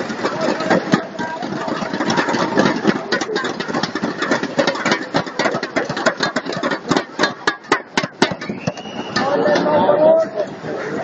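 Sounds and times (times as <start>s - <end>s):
sharp claps: 0.0s - 9.7s.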